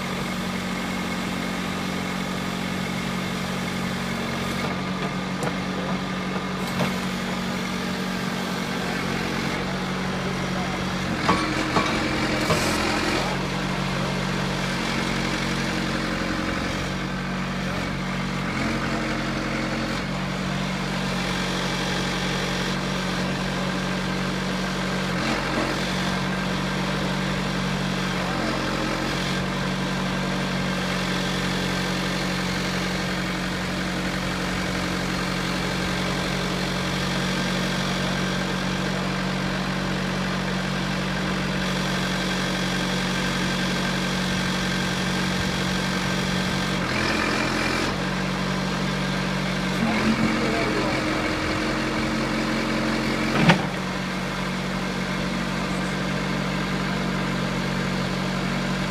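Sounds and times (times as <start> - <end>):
backhoe engine idling: 0.0 - 58.9.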